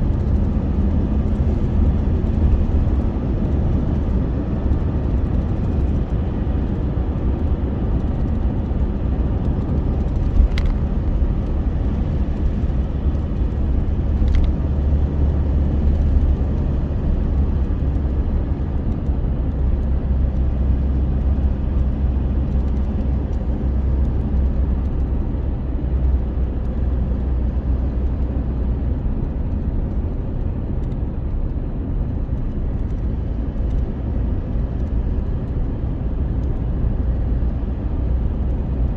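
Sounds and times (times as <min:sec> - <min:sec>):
vehicle rumbling in motion: 0:00.0 - 0:38.9.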